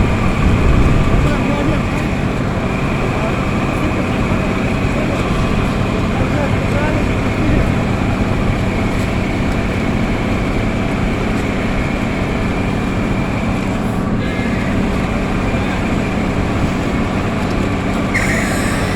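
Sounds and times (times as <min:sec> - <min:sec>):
heavy machinery engine droning: 0:00.0 - 0:18.9.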